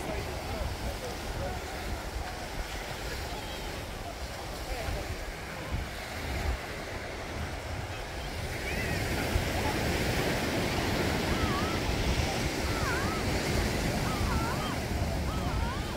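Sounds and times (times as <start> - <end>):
ocean surf on sandy beach: 0.0 - 15.9
wind rumbling on microphone: 0.0 - 15.9.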